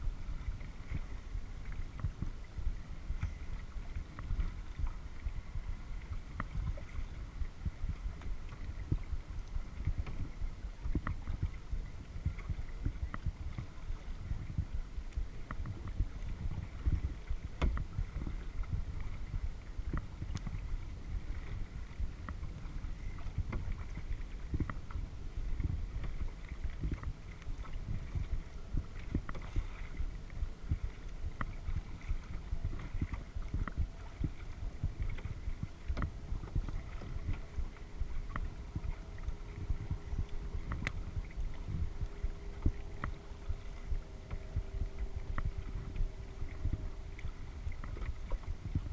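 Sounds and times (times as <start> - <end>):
faint steady hum: 0.0 - 48.9
low rumble against hull: 0.0 - 48.9
paddle water sounds: 0.0 - 48.9.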